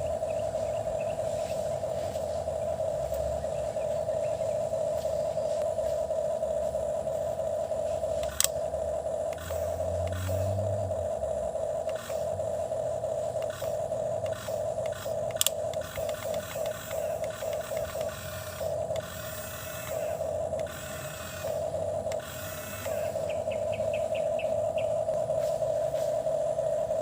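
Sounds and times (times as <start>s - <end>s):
toy motor and gears whirring: 0.0s - 27.0s.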